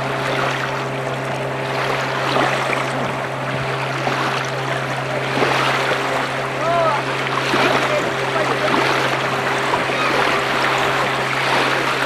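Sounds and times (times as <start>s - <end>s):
water lapping at shoreline: 0.0s - 12.0s.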